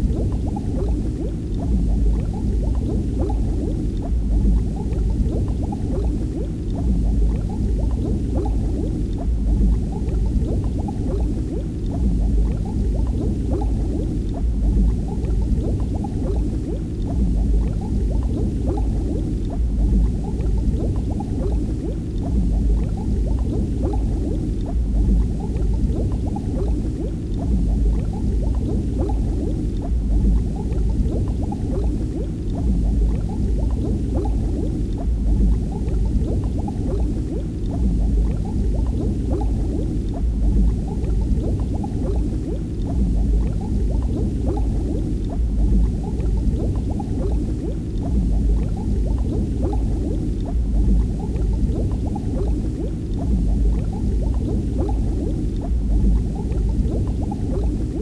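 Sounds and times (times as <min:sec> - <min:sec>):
water bubbling and gurgling: 0:00.0 - 0:58.0.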